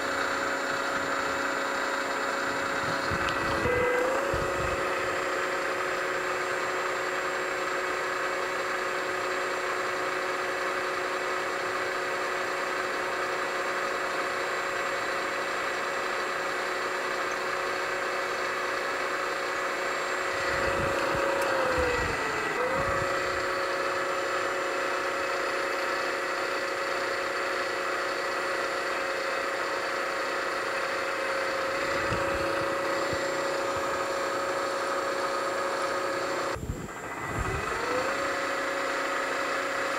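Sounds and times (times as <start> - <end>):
milling machine motor whine: 0.0 - 39.9.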